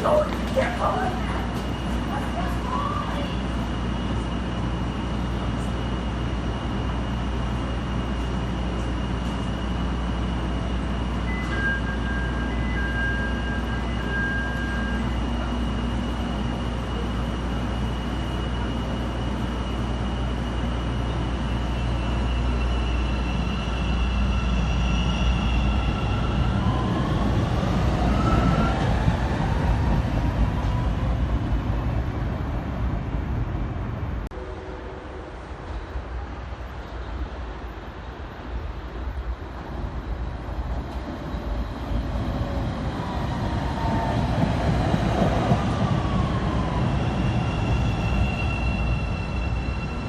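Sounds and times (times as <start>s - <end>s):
train low rumble: 0.0s - 50.0s.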